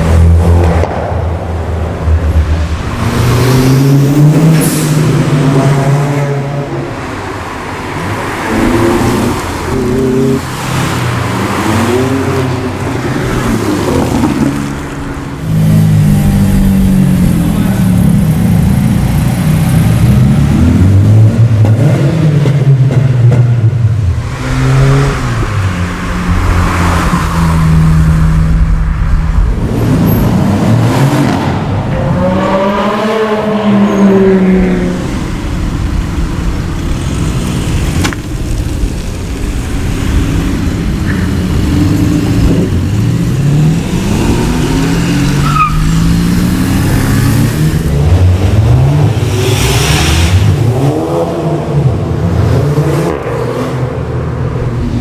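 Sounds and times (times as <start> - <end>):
cars accelerating hard: 0.0 - 55.0.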